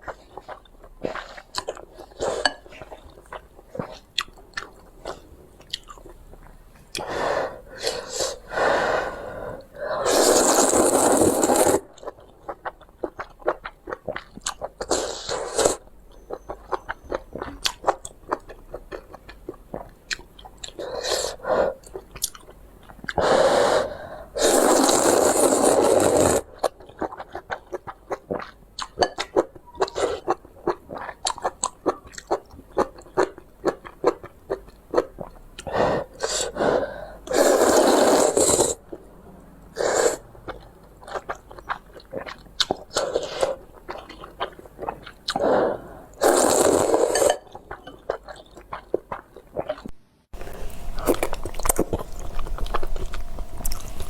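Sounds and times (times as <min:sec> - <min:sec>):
chewing noodles: 0:00.0 - 0:07.1, 0:09.9 - 0:23.8, 0:24.4 - 0:54.0.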